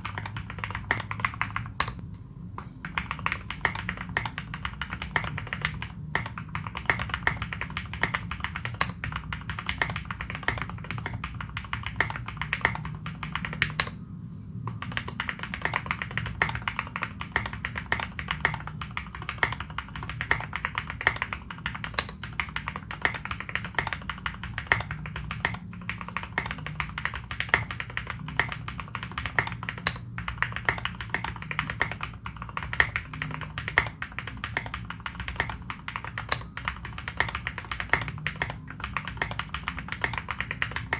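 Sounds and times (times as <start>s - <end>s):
mechanical keyboard typing: 0.0s - 14.0s, 14.7s - 40.9s.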